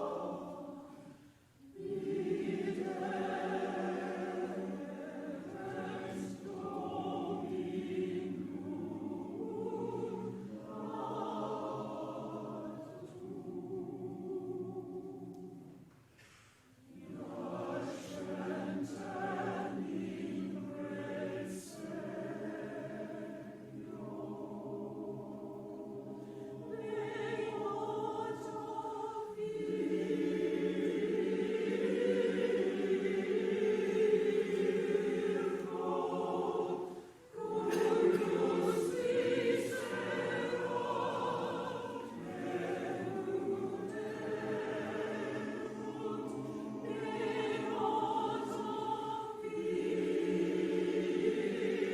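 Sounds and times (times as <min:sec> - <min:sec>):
choir singing sustained chords: 0:00.0 - 0:15.9, 0:16.7 - 0:51.9.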